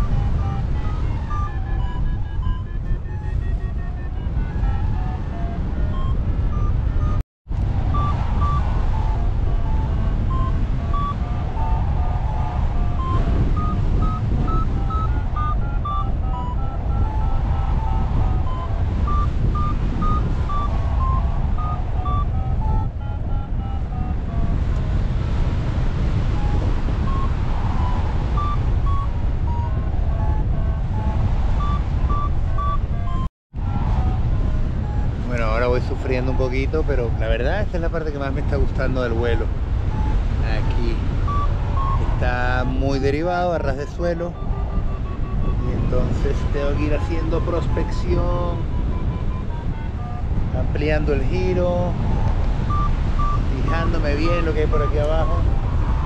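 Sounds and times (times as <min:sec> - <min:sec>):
variometer beeping: 0:00.0 - 0:07.2, 0:07.9 - 0:36.3, 0:38.6 - 0:56.0
wind rushing over microphone: 0:00.0 - 0:56.0.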